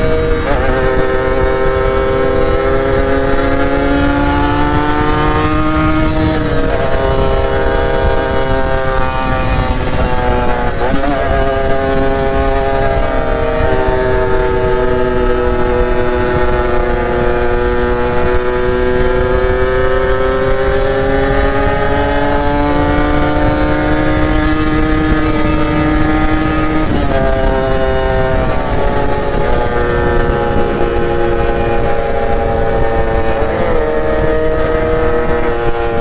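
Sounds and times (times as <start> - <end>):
two-stroke motorcycle engine: 0.0 - 36.0
wind noise on microphone: 0.0 - 36.0.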